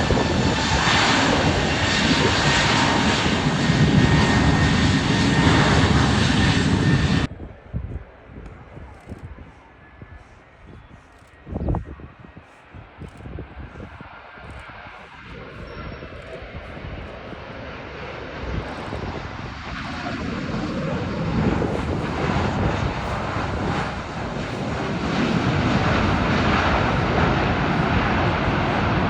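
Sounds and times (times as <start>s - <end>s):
jet airliner engines rushing: 0.0s - 7.4s, 8.4s - 29.0s.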